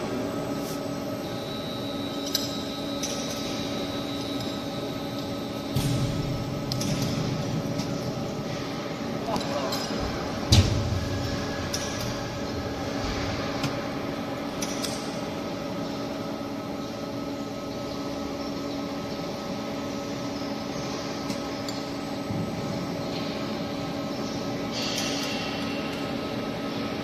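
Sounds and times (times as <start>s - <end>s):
hydraulic power unit humming: 0.0s - 27.0s.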